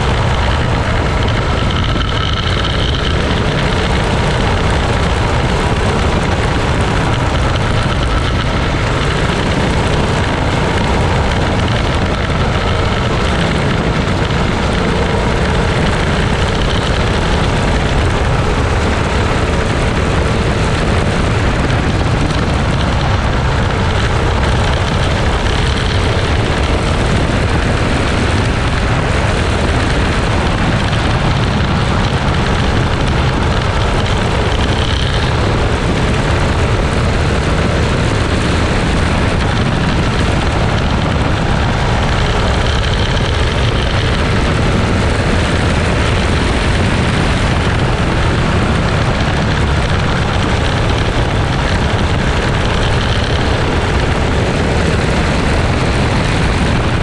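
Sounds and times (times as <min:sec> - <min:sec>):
kart engine running hard: 0:00.0 - 0:57.0
wind rush: 0:00.0 - 0:57.0.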